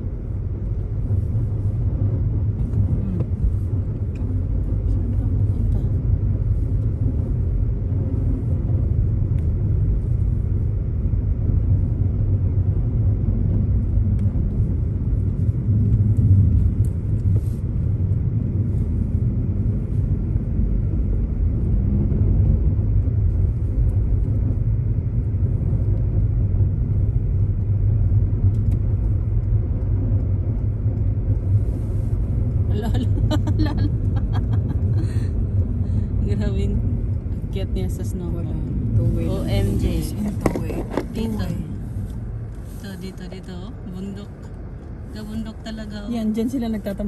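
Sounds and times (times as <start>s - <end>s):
car road and engine rumble: 0.0s - 47.0s.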